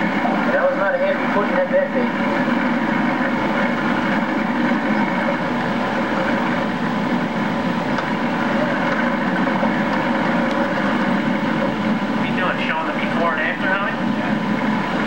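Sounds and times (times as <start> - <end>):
motorboat engine drone: 0.0 - 15.0.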